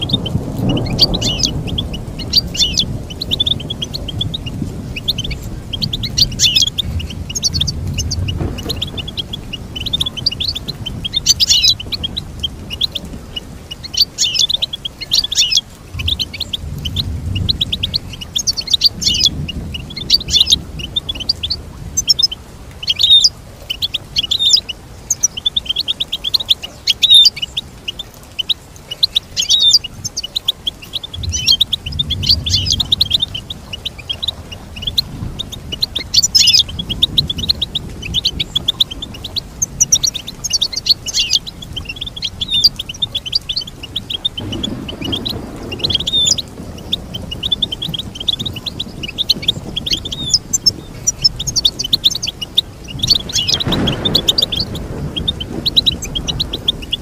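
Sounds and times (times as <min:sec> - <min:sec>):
goldfinch twittering song: 0:00.0 - 0:57.0.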